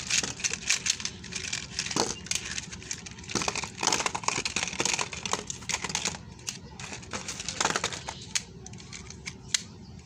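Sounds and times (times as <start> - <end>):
toy cars clattering: 0.0 - 9.8.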